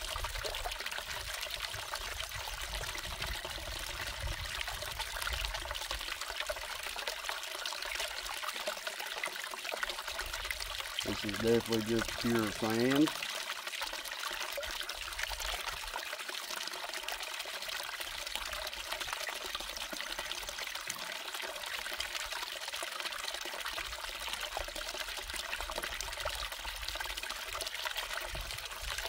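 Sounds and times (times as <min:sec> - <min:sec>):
water trickling: 0:00.0 - 0:29.0.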